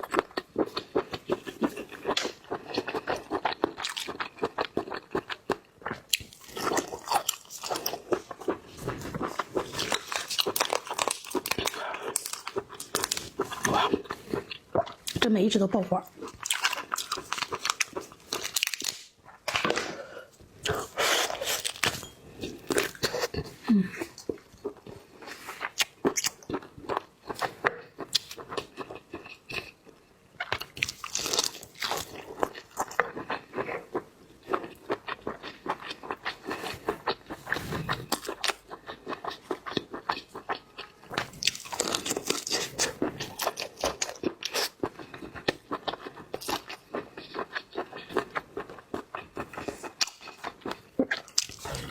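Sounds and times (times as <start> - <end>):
person crunching and chewing: 0.0 - 15.2, 16.1 - 20.0, 20.6 - 51.9.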